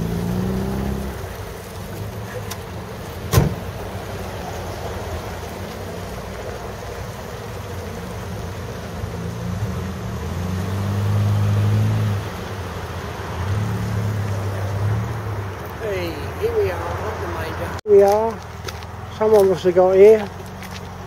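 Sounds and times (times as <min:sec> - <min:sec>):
car engine running: 0:00.0 - 0:17.8.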